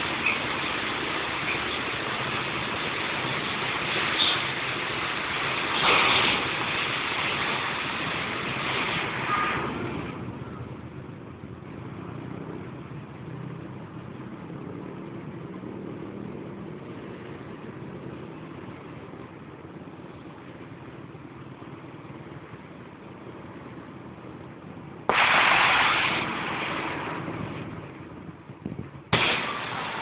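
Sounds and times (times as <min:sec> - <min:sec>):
low engine hum: 0:00.0 - 0:30.0
passing vehicles rushing: 0:00.0 - 0:30.0.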